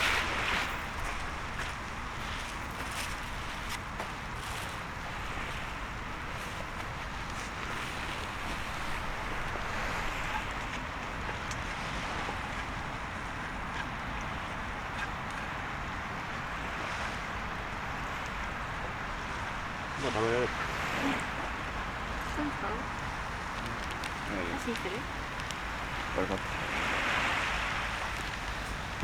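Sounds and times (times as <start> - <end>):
surf on the shore: 0.0 - 29.0
wind: 0.0 - 29.0.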